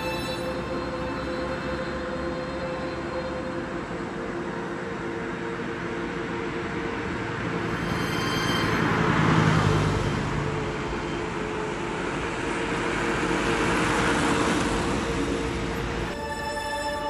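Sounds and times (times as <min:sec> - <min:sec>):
minibus driving past: 0:00.0 - 0:17.0.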